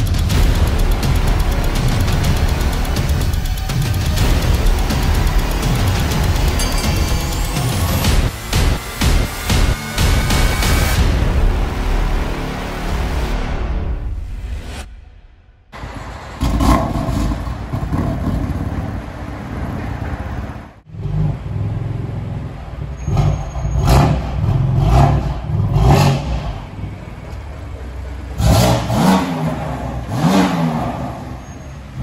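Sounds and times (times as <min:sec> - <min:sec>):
car engine revving: 0:00.0 - 0:15.0, 0:15.6 - 0:32.0.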